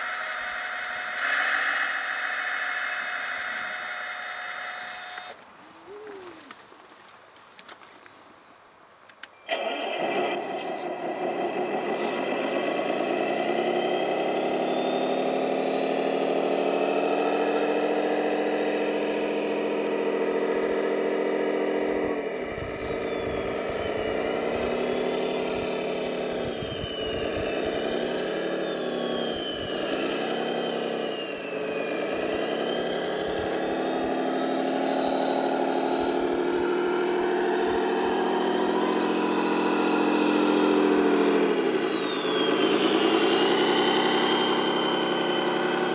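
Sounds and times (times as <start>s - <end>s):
simulated truck engine sound: 0.0s - 6.5s, 9.4s - 45.9s
thin high whine: 0.0s - 6.6s, 9.3s - 45.9s.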